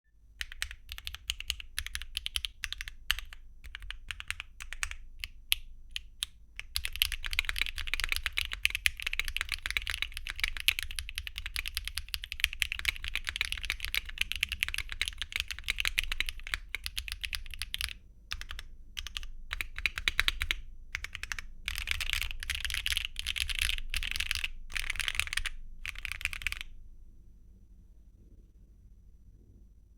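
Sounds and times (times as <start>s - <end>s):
mechanical keyboard typing: 0.4s - 26.8s.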